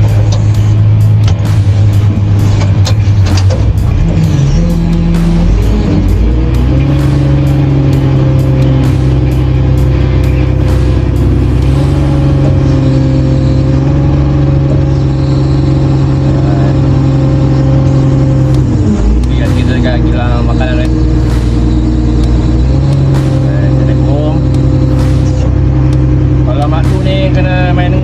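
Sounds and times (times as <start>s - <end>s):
crane engine revving: 0.0s - 28.0s.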